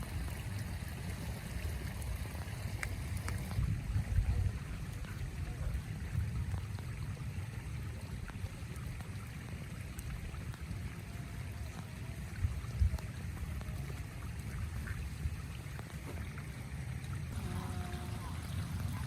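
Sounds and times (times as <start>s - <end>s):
heavy rain on a tent: 0.0s - 14.2s, 15.6s - 19.0s.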